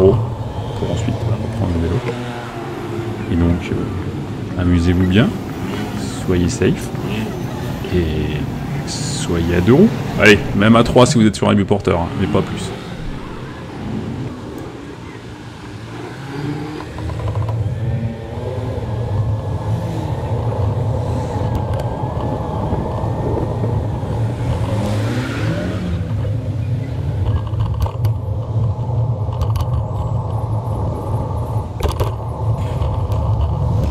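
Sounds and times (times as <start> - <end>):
low traffic rumble: 0.0 - 33.9
motor vehicles passing close: 0.0 - 33.9.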